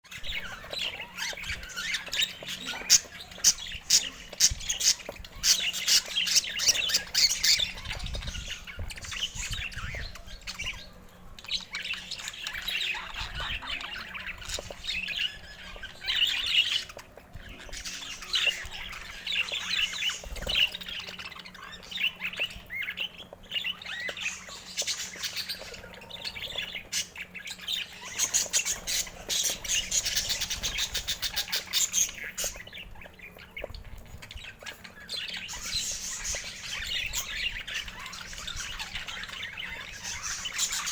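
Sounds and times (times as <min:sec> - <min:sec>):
budgerigars chattering: 0:00.1 - 0:40.9.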